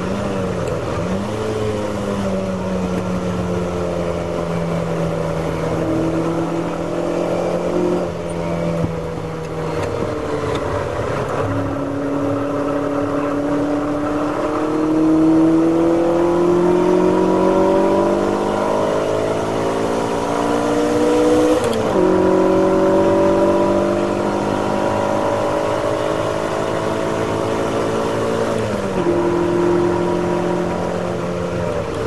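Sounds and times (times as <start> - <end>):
racing engine accelerating: 0.0 - 32.0
wind and road noise: 0.0 - 32.0.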